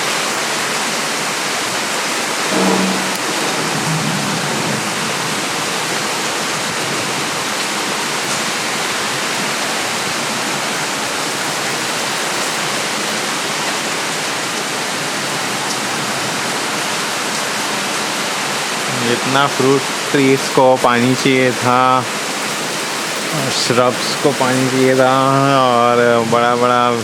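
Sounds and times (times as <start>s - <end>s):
heavy rain pouring: 0.1s - 16.5s, 20.2s - 26.3s.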